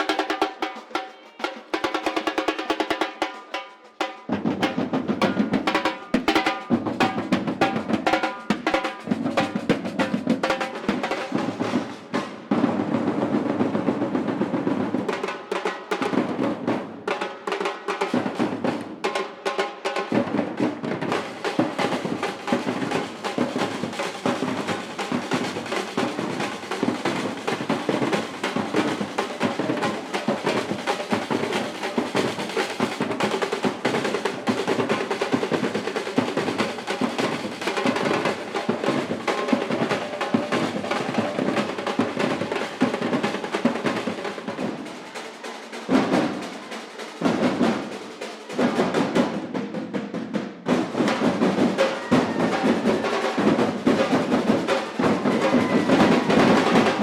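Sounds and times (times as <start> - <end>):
samba drums playing: 0.0 - 57.0
snare drums rolling: 0.0 - 57.0.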